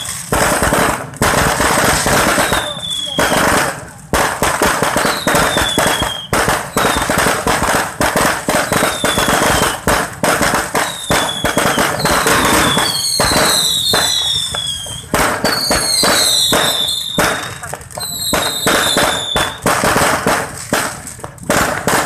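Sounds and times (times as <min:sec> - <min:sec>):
falling firework whistles: 0:00.0 - 0:03.6, 0:04.9 - 0:19.9
fireworks bangs and crackling: 0:00.0 - 0:22.0.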